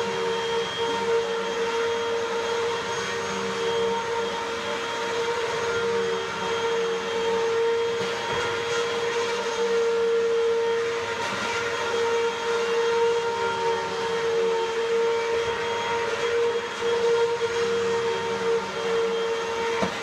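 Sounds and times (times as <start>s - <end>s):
vacuum cleaner whining: 0.0s - 20.0s.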